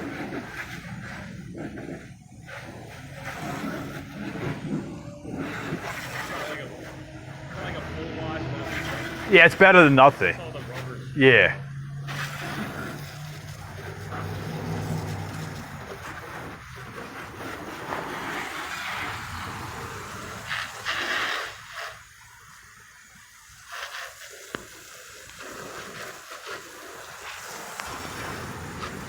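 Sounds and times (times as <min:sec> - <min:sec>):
hose water spraying onto car: 0:00.0 - 0:29.0.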